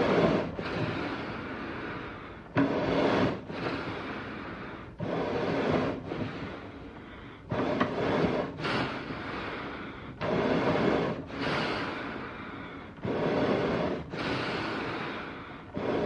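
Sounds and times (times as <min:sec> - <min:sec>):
heavy animal breathing: 0:00.0 - 0:16.0.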